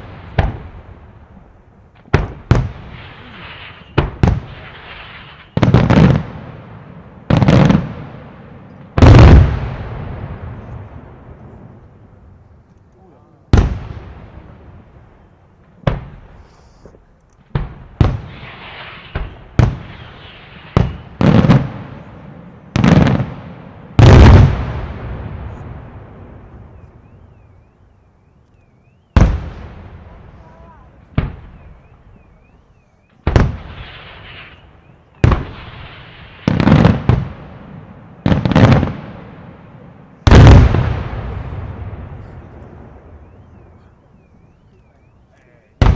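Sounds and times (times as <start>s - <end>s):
fireworks bangs with echo: 0.0s - 12.0s, 13.5s - 16.6s, 17.5s - 27.3s, 29.1s - 44.5s, 45.6s - 45.9s.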